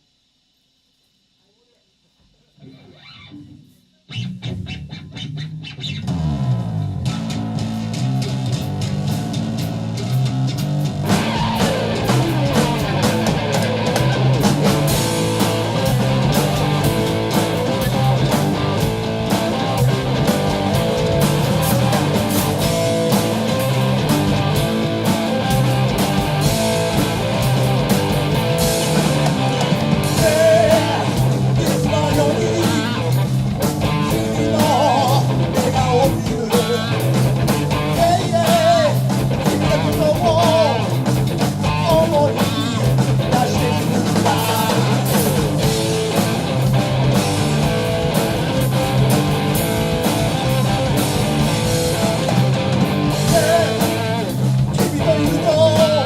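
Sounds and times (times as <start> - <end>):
electric guitars: 2.6 - 56.0
drum kit beat: 3.5 - 56.0.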